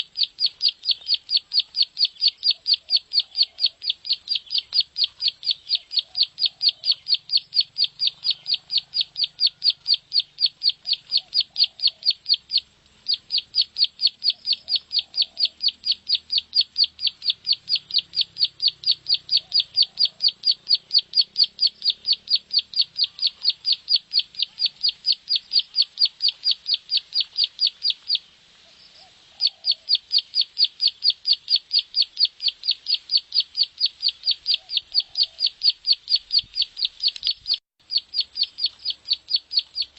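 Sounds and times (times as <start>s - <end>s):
bird ticking call: 0.0s - 28.3s, 28.9s - 39.9s.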